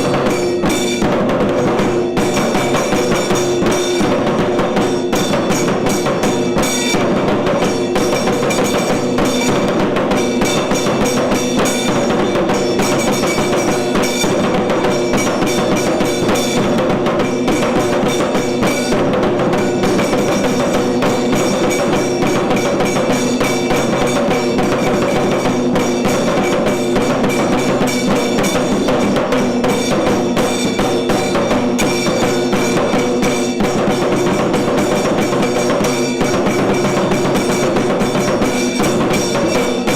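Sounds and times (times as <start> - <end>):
fast drumming: 0.0 - 39.9.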